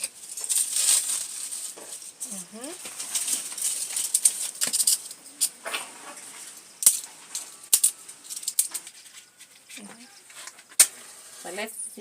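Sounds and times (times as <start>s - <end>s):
dry leaves and sticks crackling: 0.0s - 11.2s.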